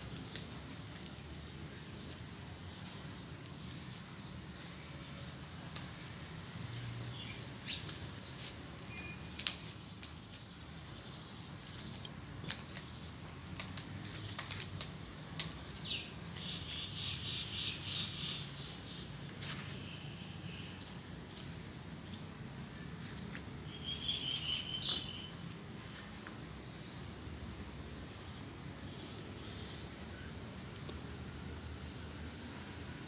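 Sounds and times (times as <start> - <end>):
small birds chirping: 0.0 - 32.7.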